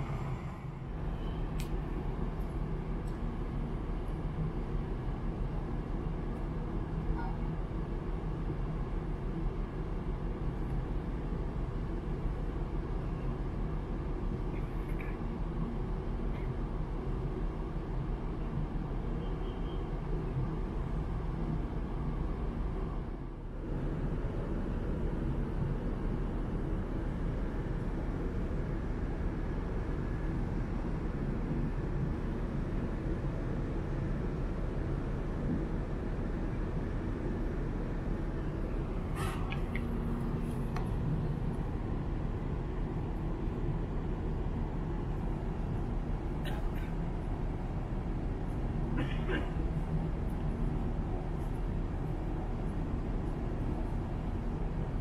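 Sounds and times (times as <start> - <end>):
ship machinery drone: 0.0 - 55.0.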